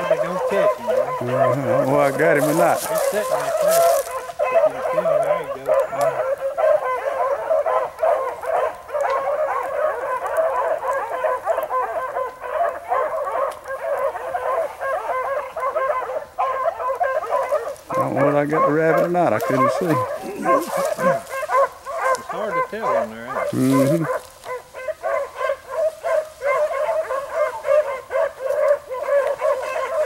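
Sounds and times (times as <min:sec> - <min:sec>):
hounds baying and yelping: 0:00.0 - 0:30.0.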